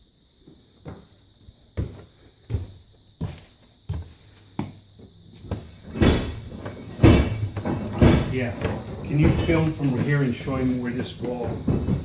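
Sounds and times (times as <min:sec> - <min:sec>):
footsteps on wooden stairs: 0:01.7 - 0:12.0.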